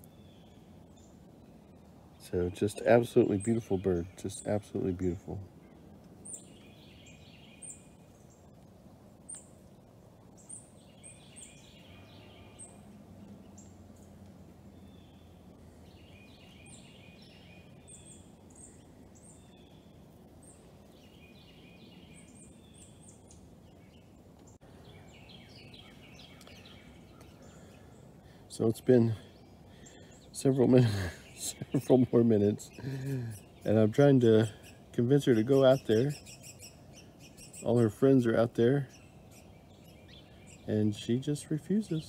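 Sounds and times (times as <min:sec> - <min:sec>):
low outdoor background noise: 0:00.0 - 0:42.0
songbirds chirping and twittering: 0:00.0 - 0:42.0.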